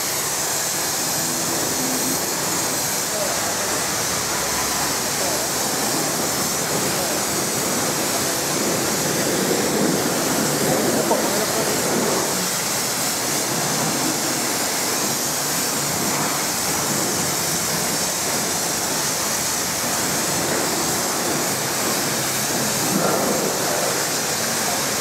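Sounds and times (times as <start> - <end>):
pressure washer spraying water: 0.0 - 25.0.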